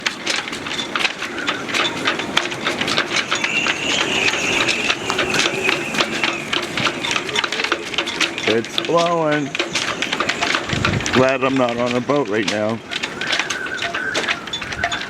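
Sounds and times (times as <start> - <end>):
gusting wind: 0.0 - 15.0
halyards clanking against masts: 0.0 - 15.0
wind whistling in rigging lines: 0.0 - 15.0.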